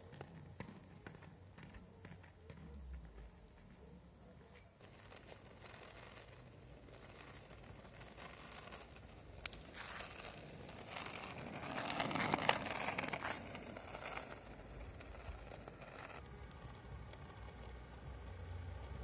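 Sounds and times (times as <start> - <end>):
skateboard wheels rolling on asphalt: 0.0 - 19.0.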